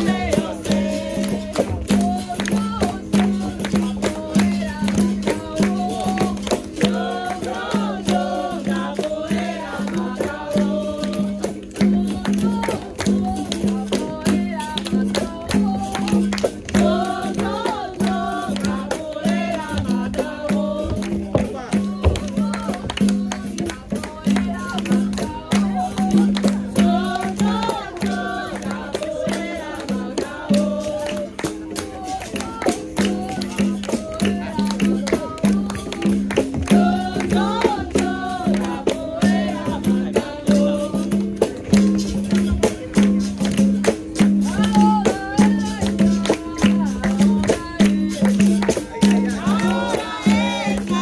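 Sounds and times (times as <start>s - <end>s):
berimbau playing rhythm: 0.0s - 51.0s
hand percussion: 0.0s - 51.0s
voices singing: 0.0s - 51.0s.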